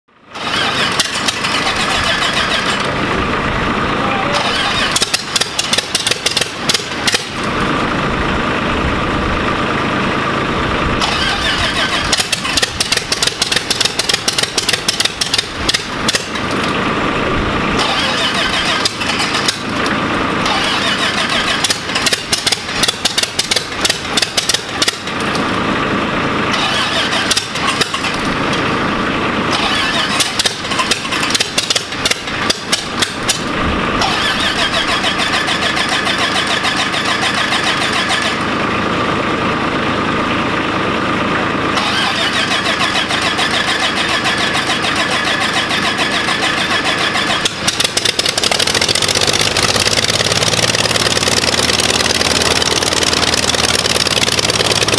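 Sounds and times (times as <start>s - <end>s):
aircraft engine running: 0.0s - 54.9s.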